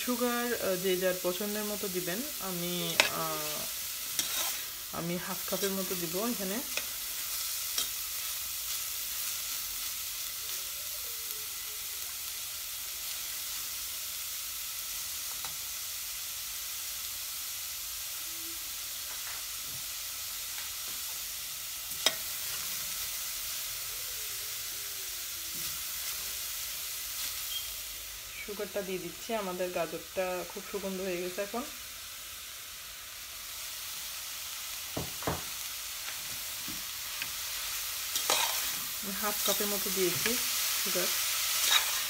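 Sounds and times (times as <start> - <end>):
carrots sizzling in butter: 0.0 - 42.0.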